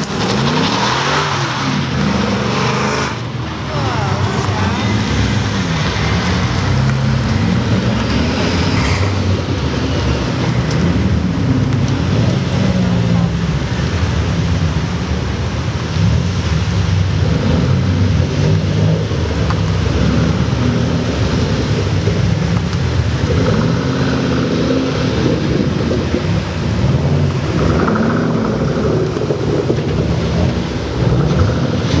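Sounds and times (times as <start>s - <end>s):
cars driving past rumbling: 0.0s - 32.0s.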